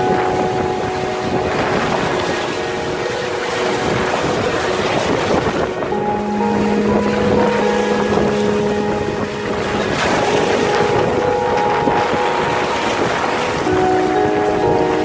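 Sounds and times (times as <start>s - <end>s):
music with long held chords: 0.0s - 15.0s
surf breaking on shore: 0.0s - 15.0s
wind roaring over microphone: 0.0s - 15.0s.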